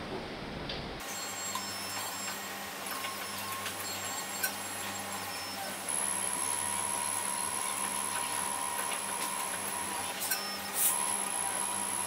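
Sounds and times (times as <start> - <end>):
key machine motor whine: 1.0 - 12.0.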